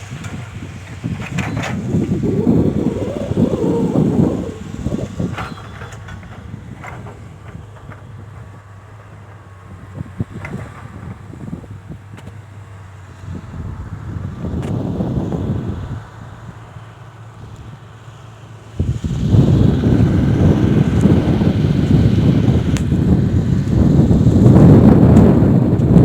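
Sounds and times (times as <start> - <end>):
excavator engine humming: 0.0 - 24.5.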